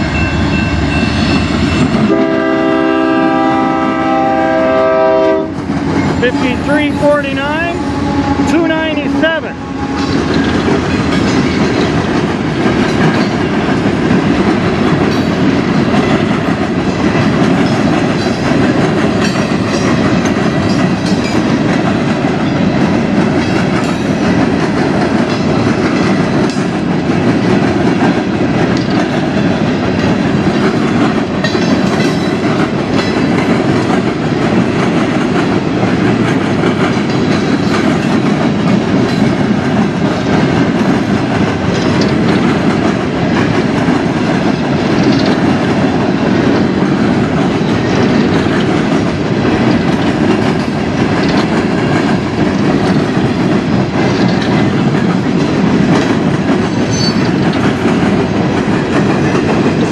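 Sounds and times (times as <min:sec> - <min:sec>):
freight train wheels rumbling: 0:00.0 - 0:59.9
wheels clicking over track: 0:10.0 - 0:59.9.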